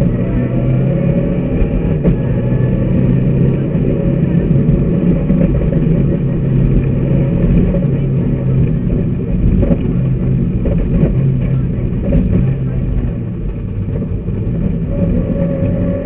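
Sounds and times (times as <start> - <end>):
car engine running hard: 0.0 - 16.0.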